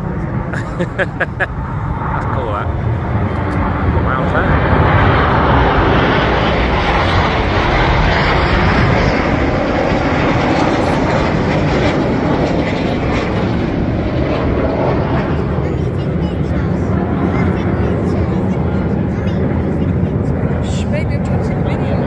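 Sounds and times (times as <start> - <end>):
aircraft flying past: 0.0 - 22.0.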